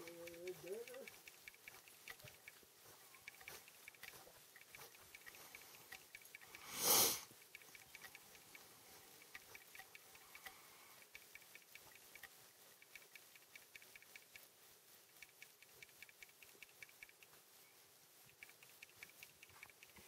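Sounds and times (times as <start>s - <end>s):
faint irregular ticking: 0.0s - 20.0s
low hiss: 0.0s - 20.0s.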